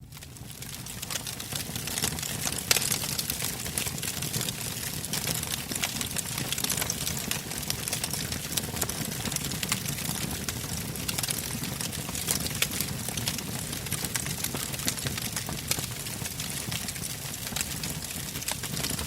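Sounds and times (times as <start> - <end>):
logs crackling and popping: 0.0 - 19.0.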